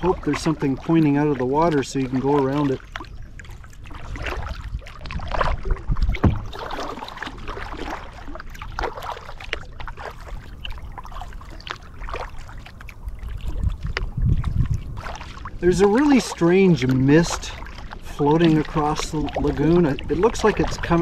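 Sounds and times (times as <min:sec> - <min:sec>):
kayak paddle splashing water: 0:00.0 - 0:21.0
water trickling from paddle: 0:00.0 - 0:21.0.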